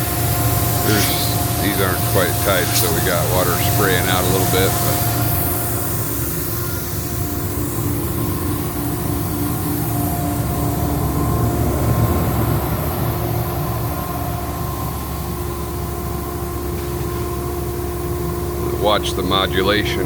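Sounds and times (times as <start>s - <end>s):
air compressor humming and whining: 0.0s - 20.0s.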